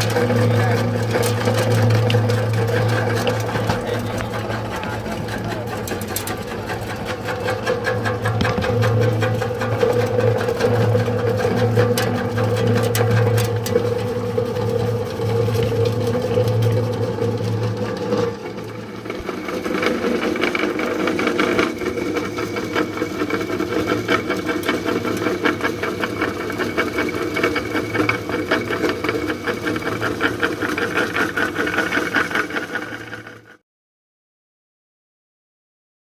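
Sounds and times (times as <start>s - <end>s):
electric machine humming and rattling: 0.0s - 33.6s.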